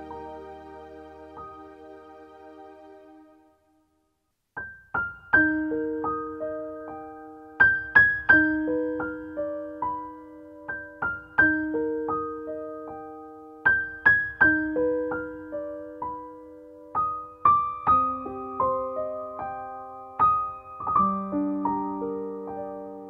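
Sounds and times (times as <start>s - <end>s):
soft piano music: 0.0s - 4.0s, 4.6s - 23.0s.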